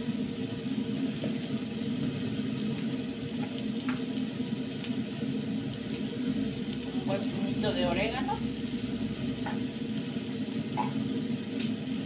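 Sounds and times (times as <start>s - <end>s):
pot hissing on stove: 0.0s - 12.0s.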